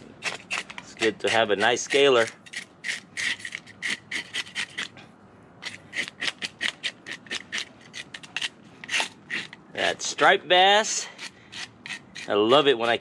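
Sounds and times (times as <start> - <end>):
fish scaler scraping scales: 0.0 - 5.0, 5.6 - 10.2, 10.8 - 13.0.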